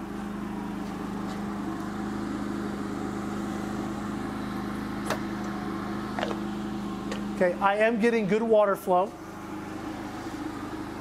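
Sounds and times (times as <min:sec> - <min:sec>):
generator humming: 0:00.0 - 0:11.0
water pump circulating water: 0:00.0 - 0:11.0.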